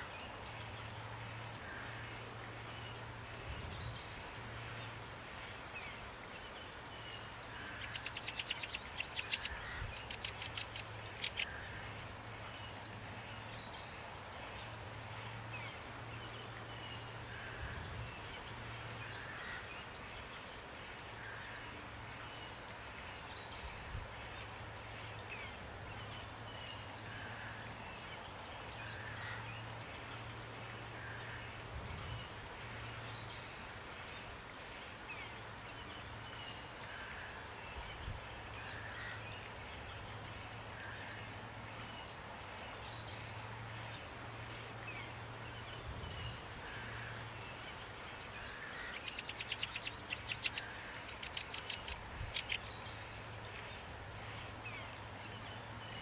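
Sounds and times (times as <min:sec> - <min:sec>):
rain hiss: 0:00.0 - 0:56.0
songbirds chirping: 0:00.0 - 0:56.0.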